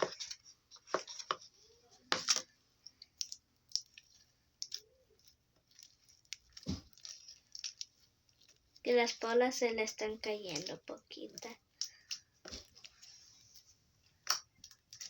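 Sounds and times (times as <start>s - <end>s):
slime squelching by hand: 0.0s - 15.0s.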